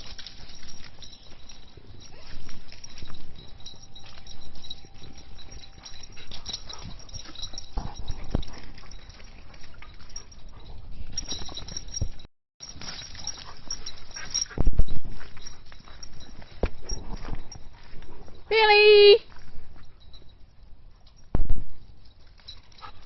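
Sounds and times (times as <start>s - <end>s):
dog noises: 0.0s - 18.5s.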